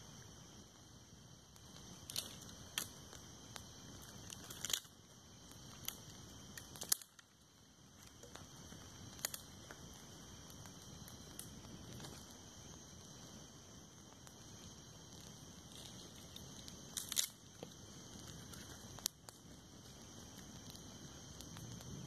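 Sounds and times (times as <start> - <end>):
campfire crackling: 0.0 - 22.0
high-pitched hiss: 0.0 - 22.0
sharp popping of fire: 0.0 - 22.0.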